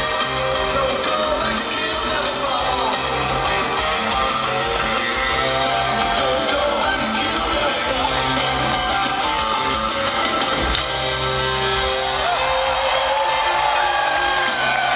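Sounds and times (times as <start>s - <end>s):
live rock band: 0.0s - 14.9s.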